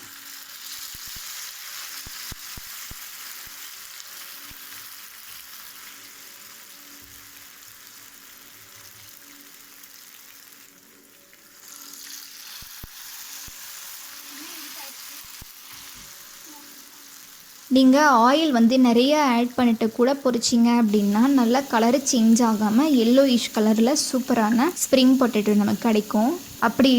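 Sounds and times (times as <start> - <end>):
food sizzling in hot oil: 0.0 - 26.9.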